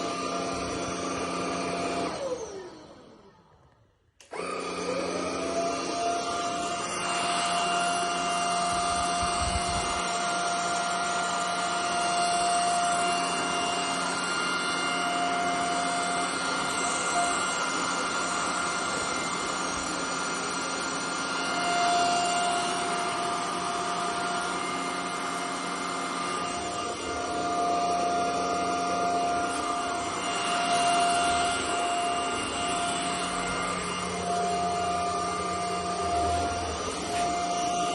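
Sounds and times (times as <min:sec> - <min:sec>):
vacuum cleaner whining: 0:00.0 - 0:37.9.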